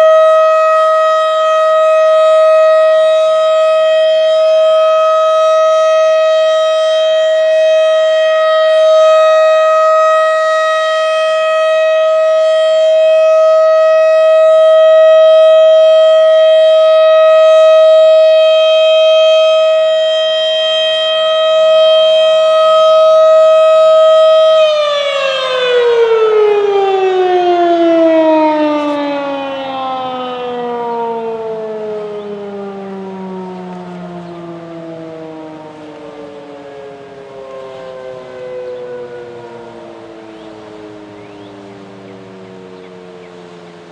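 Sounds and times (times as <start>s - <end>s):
siren steady tone winding down: 0.0s - 43.9s.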